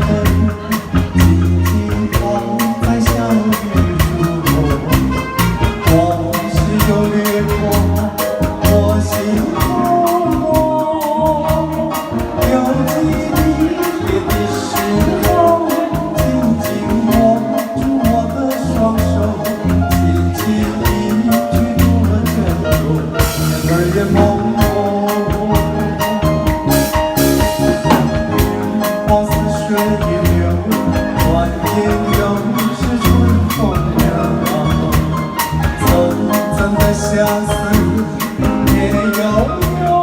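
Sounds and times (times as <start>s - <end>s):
instrumental music with steady beat: 0.0s - 40.0s.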